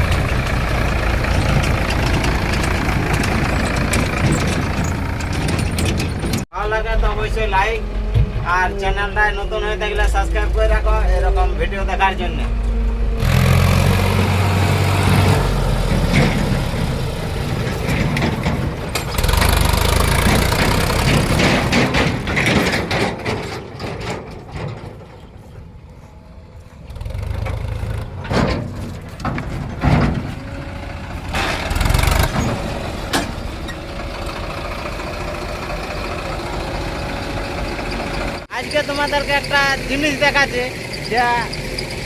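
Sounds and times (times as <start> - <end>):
heavy diesel machinery engine: 0.0 - 42.0.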